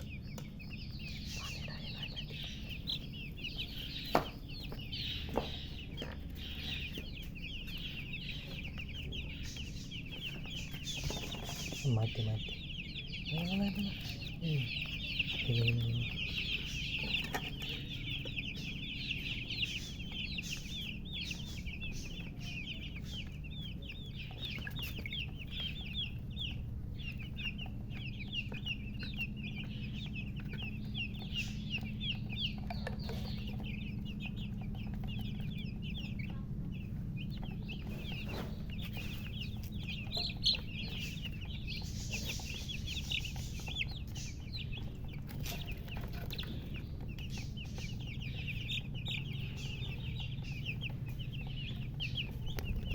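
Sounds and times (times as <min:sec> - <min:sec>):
chicks peeping: 0:00.0 - 0:52.9
low steady hum: 0:00.0 - 0:52.9.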